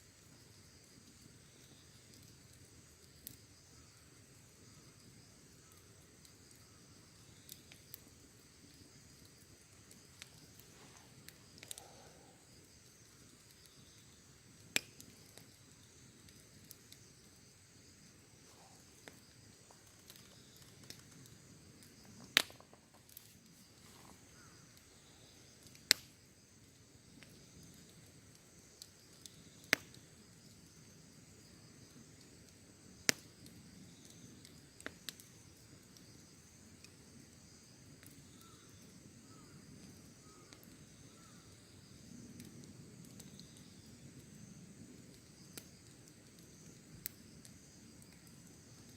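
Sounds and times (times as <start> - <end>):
campfire crackling and popping: 0.0 - 48.9
insects trilling: 0.0 - 48.9.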